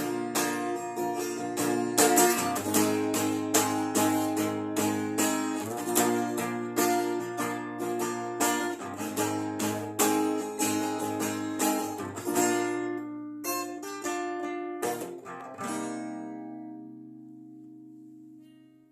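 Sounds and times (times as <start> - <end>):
guitar strumming chords: 0.0 - 18.9.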